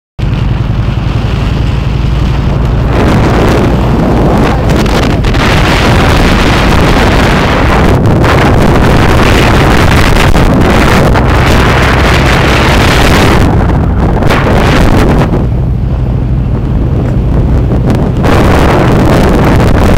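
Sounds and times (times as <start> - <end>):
motorbike engine running: 0.2 - 19.2
wind buffeting microphone: 0.2 - 19.9.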